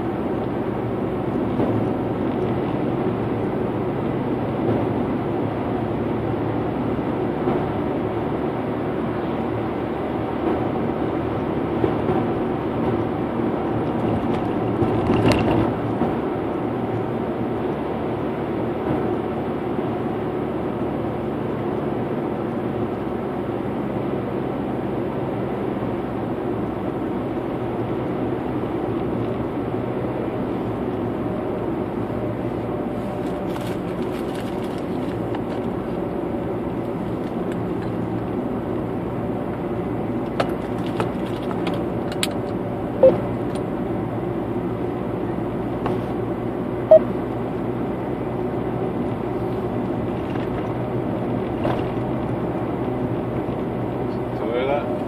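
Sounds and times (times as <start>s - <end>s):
car cabin engine and tyre drone: 0.0s - 55.0s.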